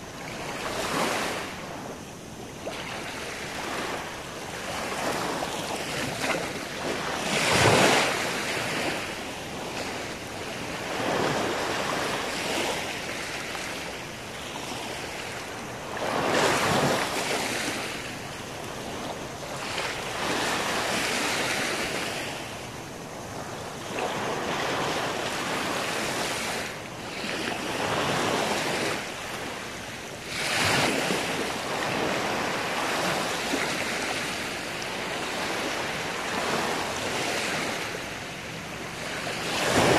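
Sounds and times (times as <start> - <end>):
small waves washing on beach: 0.0 - 39.9.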